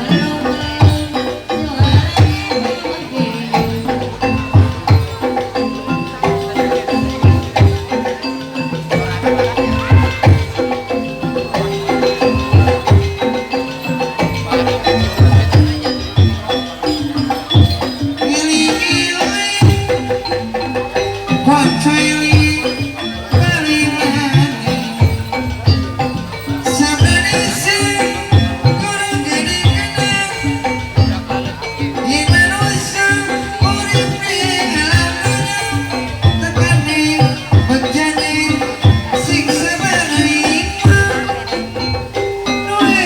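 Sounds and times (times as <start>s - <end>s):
hand-drum strokes: 0.0s - 43.0s
pitched metal percussion: 0.0s - 43.0s.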